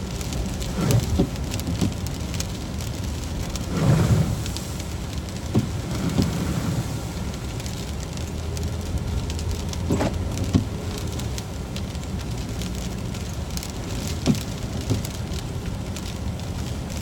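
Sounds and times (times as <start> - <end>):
car engine and tyres rumbling: 0.0 - 17.0
crackling hiss: 0.0 - 17.0.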